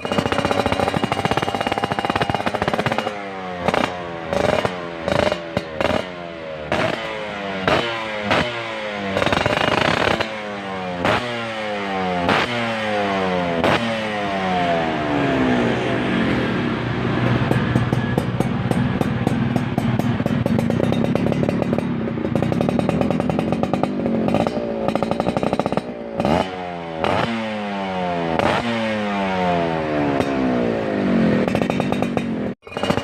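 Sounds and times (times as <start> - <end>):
two-stroke engine revving: 0.0 - 33.0.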